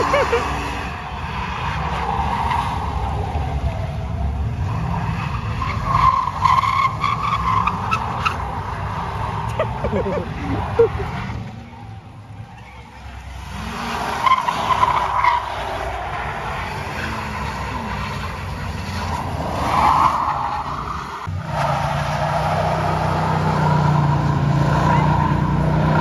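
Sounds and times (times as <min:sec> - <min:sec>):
truck engine revving high: 0:00.0 - 0:12.4, 0:13.0 - 0:26.0
tyres squealing on asphalt: 0:00.0 - 0:26.0.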